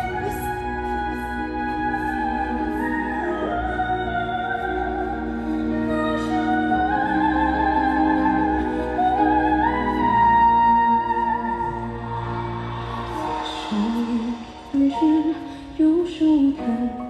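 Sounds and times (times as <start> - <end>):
operatic music: 0.0 - 17.0.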